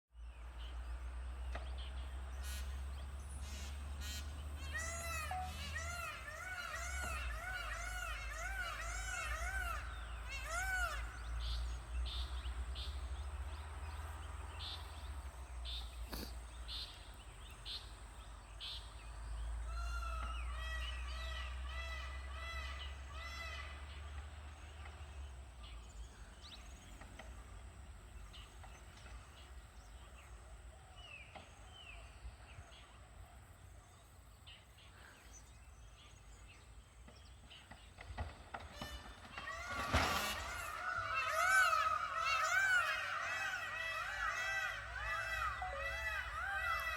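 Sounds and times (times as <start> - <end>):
peafowl calls: 2.3 - 32.1, 37.6 - 46.9.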